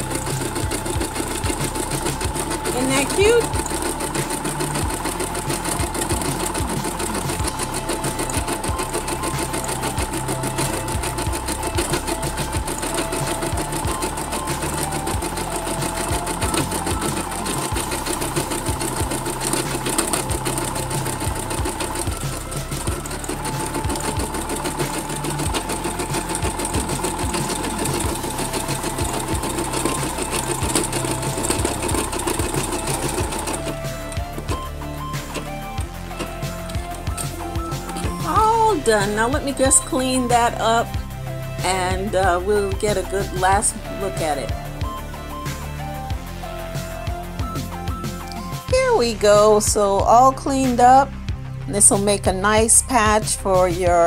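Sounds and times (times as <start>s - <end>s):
embroidery needle rattling: 0.0s - 44.6s
machine motor whine: 0.0s - 48.8s.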